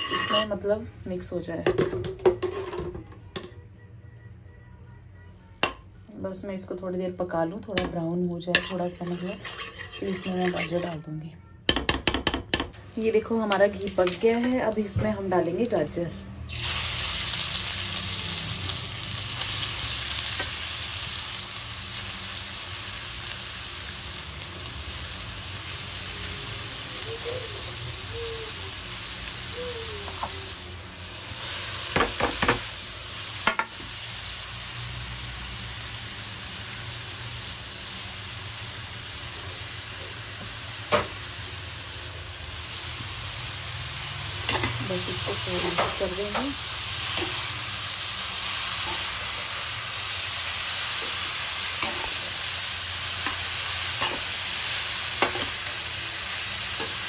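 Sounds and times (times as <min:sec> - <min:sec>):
carrots sizzling in hot ghee: 0:08.4 - 0:11.0, 0:12.7 - 0:57.0.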